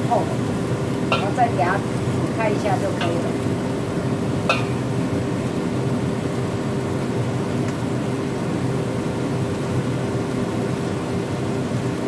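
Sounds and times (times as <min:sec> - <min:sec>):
food bubbling in a wok: 0:00.0 - 0:12.0.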